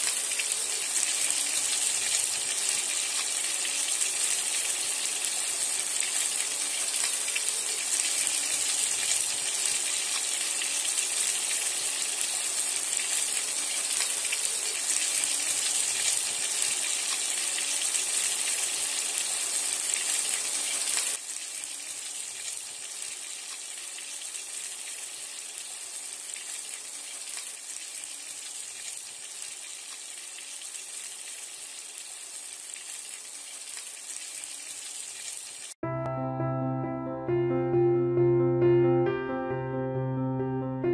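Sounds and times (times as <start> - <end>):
fish sizzling in hot oil: 0.0 - 35.8.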